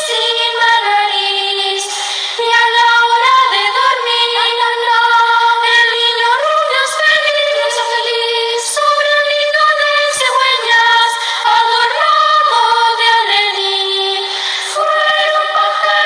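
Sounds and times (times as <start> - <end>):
children's choir singing a carol: 0.0 - 16.0.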